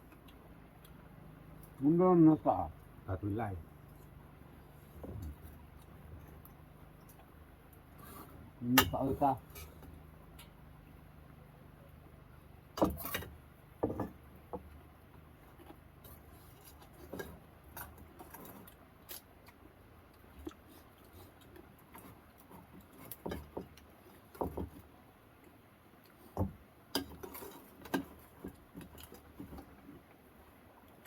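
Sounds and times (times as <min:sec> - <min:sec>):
faint steady background noise: 0:00.0 - 0:31.0.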